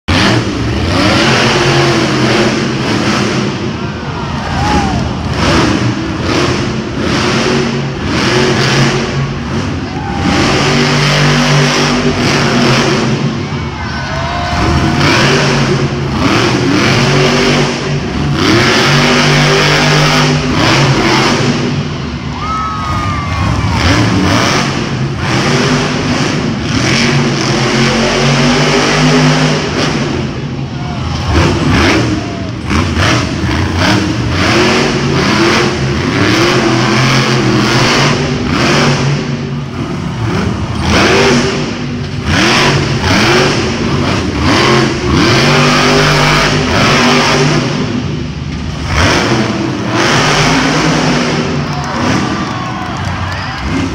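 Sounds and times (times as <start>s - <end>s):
truck engines revving: 0.0s - 53.9s.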